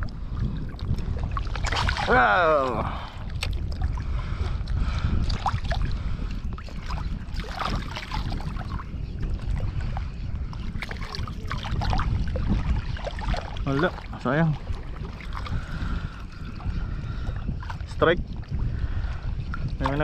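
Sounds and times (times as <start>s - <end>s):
water sloshing and splashing: 0.0s - 20.0s
wind rumble on microphone: 0.0s - 20.0s.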